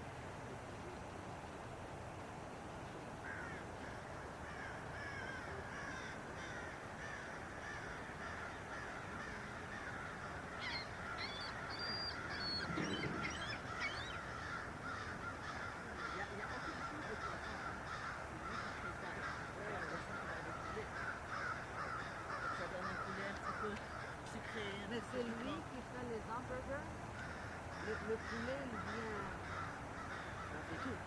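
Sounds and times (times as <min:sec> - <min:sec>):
steady background hiss: 0:00.0 - 0:31.0
birds chirping and calling: 0:04.6 - 0:25.6, 0:27.2 - 0:31.0.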